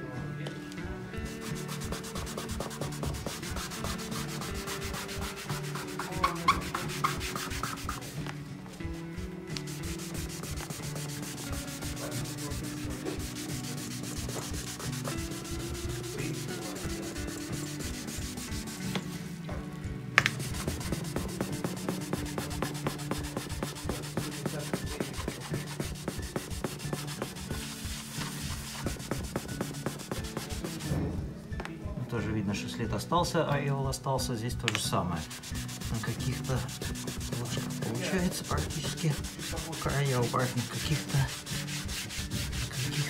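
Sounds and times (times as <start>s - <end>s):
cloth rubbing on wooden floor: 1.2s - 19.3s, 20.3s - 31.0s, 35.2s - 43.0s.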